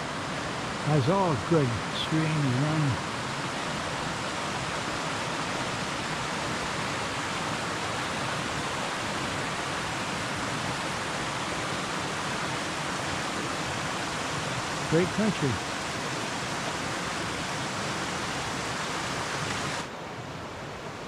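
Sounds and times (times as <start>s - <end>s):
stream rushing over cascades: 0.0s - 21.0s.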